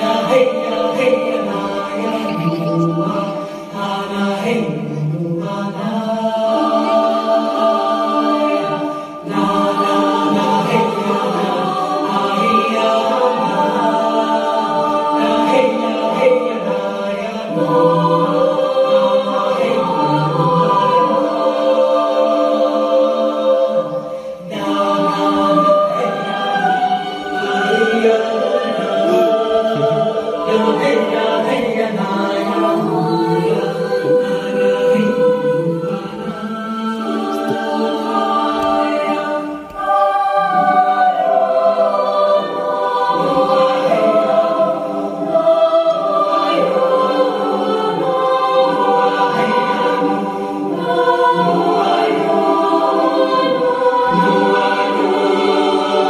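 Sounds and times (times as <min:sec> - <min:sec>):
choir singing held notes: 0:00.0 - 0:56.0.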